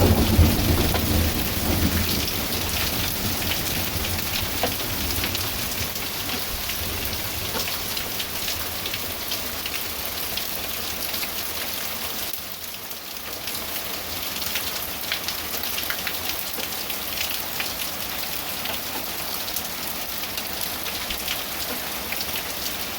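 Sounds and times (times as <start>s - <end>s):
hail pelting hard surfaces: 0.0s - 22.9s.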